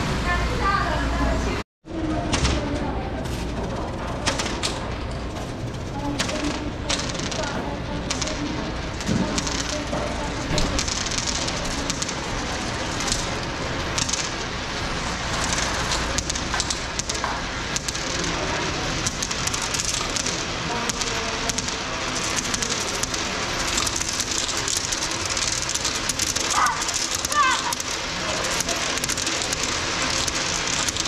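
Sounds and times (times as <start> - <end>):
coins rolling in a funnel: 6.0 - 31.0.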